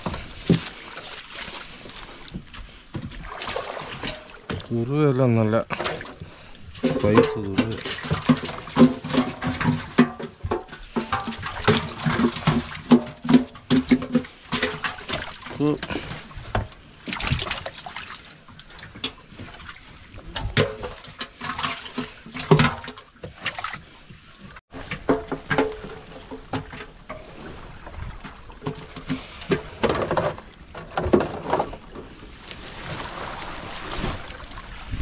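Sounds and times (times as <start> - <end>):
water splashing and trickling: 0.0 - 35.0.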